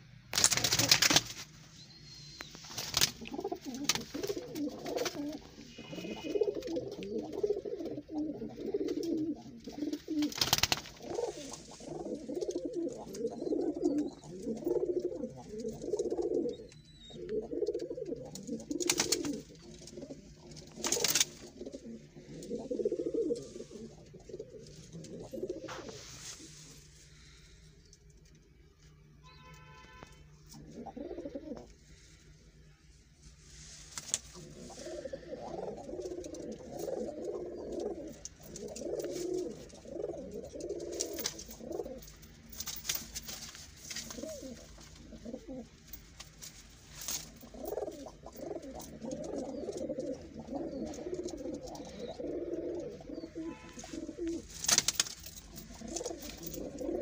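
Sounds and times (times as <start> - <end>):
pigeons cooing: 1.9 - 28.0, 30.5 - 32.0, 34.2 - 42.6, 43.9 - 46.0, 47.2 - 57.0.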